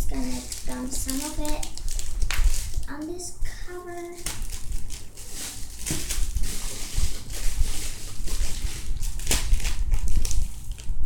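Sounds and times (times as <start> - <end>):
foam toys rustling on cloth: 0.0 - 10.9.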